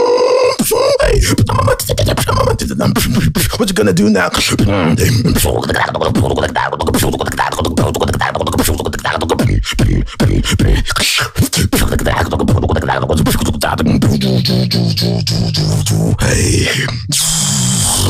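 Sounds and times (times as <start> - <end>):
beatboxing drum hits and clicks: 0.6 - 16.2.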